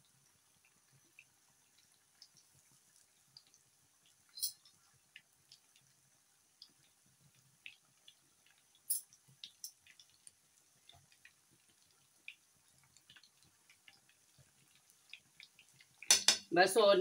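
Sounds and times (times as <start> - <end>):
oil crackling and popping: 0.0 - 16.5.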